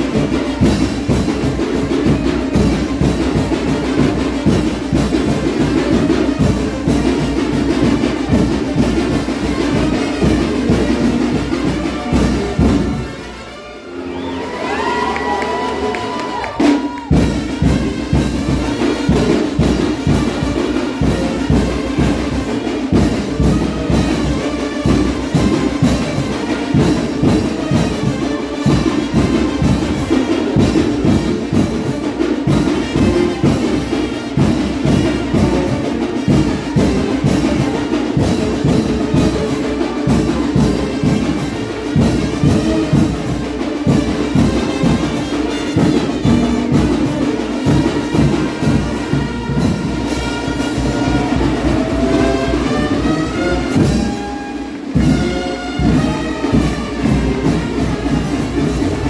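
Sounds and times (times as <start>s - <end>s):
driving drum beat: 0.0s - 13.4s, 14.4s - 59.0s
brass band playing dance music: 0.0s - 59.0s.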